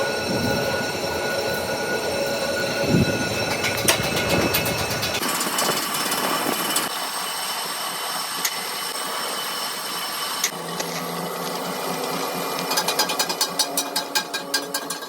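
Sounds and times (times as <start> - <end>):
workshop machine whining: 0.0 - 15.0.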